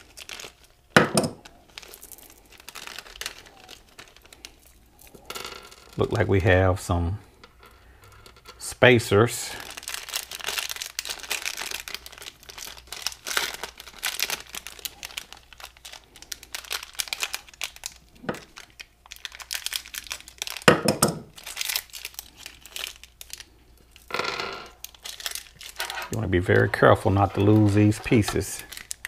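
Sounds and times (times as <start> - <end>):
plastic bag crinkling: 0.0 - 29.0.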